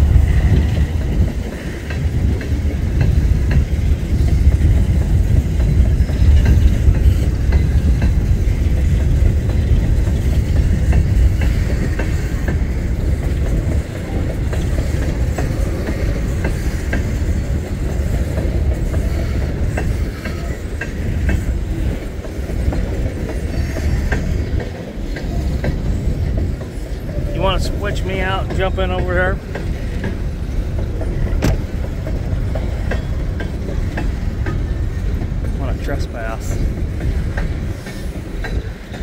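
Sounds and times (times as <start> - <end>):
train cars rumbling: 0.0 - 39.0
wheels clicking over rail joints: 0.0 - 39.0.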